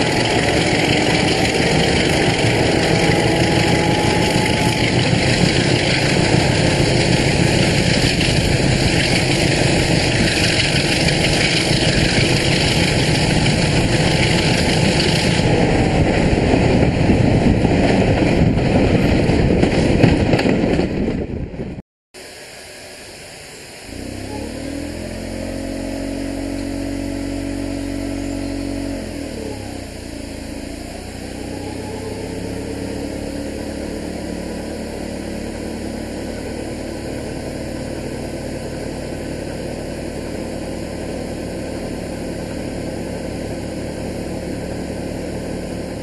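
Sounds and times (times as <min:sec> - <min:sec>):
diesel locomotive engine running up: 0:00.0 - 0:46.0.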